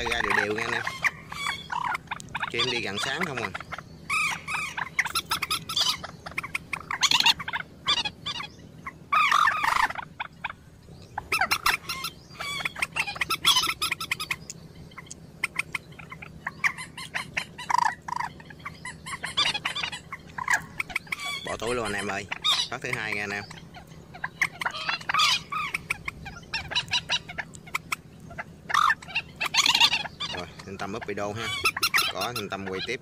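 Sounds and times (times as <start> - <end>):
bird calls: 0.0 - 33.0.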